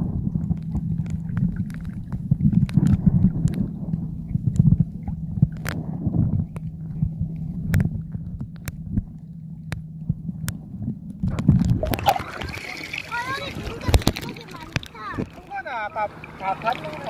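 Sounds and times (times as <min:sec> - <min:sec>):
water splashing: 0:00.0 - 0:09.7, 0:11.2 - 0:17.0
muffled underwater hum and rumble: 0:00.0 - 0:17.0.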